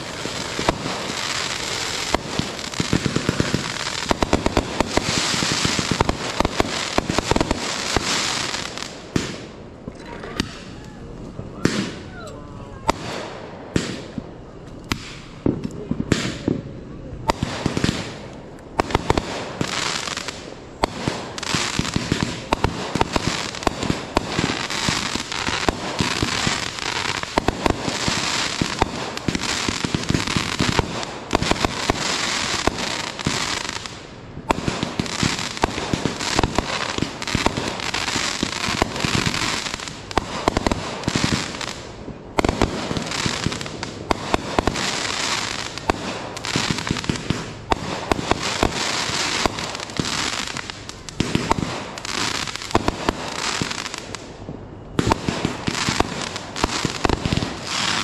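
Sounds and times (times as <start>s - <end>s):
firework shells bursting: 0.0s - 9.6s, 17.2s - 58.0s
firework stars crackling: 0.0s - 58.0s.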